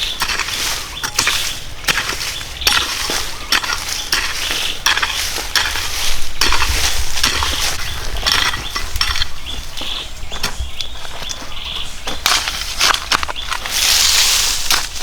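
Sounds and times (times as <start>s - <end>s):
hand tool scraping soil: 0.0s - 15.0s.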